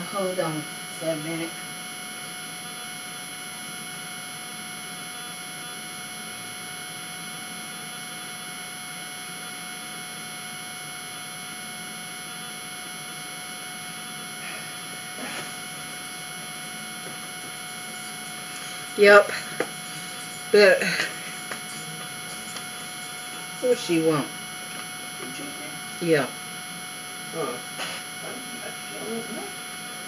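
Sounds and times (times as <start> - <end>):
electrical hum: 0.0 - 30.0
high-pitched whining tones: 0.0 - 30.0.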